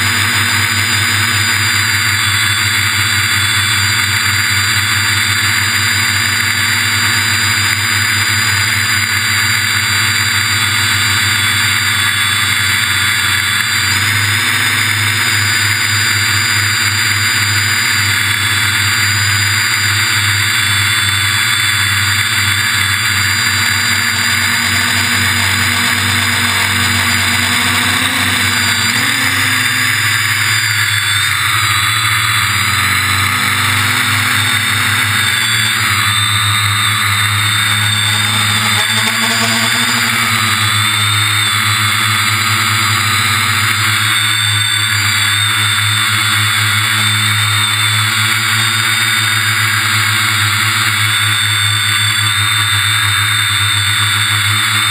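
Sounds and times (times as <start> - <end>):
drone motors and propellers buzzing: 0.0 - 54.9.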